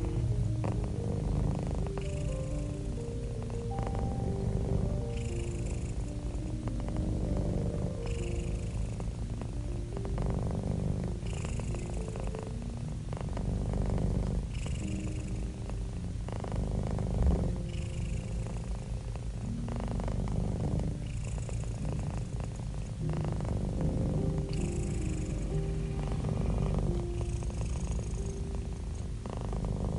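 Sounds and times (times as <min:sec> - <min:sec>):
cat purring: 0:00.0 - 0:29.9.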